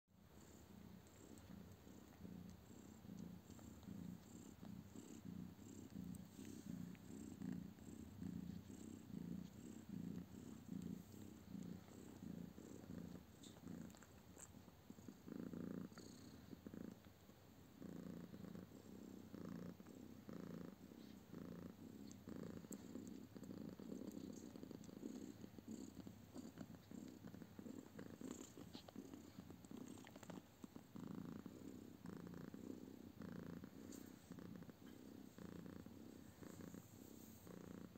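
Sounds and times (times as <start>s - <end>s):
cat purring: 0.2s - 37.9s.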